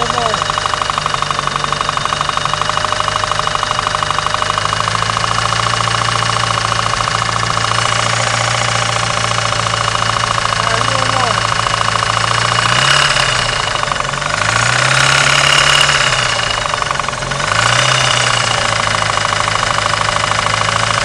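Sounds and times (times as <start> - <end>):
engine running: 0.0 - 21.0
metallic engine knocking: 0.0 - 21.0.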